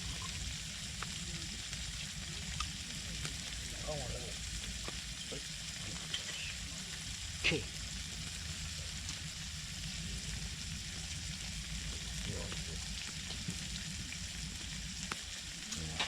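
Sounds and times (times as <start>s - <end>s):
food sizzling: 0.0s - 16.0s.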